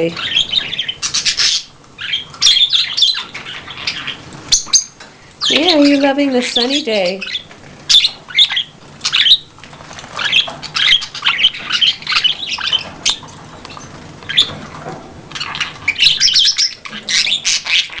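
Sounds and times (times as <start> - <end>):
budgerigars chattering and chirping: 0.0 - 18.0.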